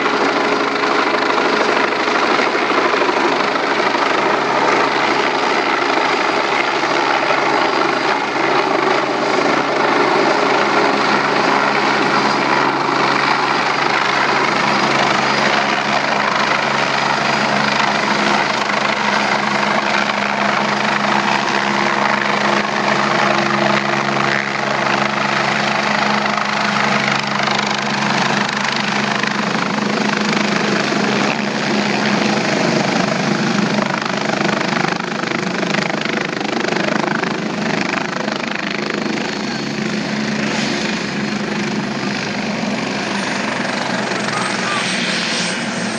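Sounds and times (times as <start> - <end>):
helicopter rotor and turbine: 0.0 - 45.9.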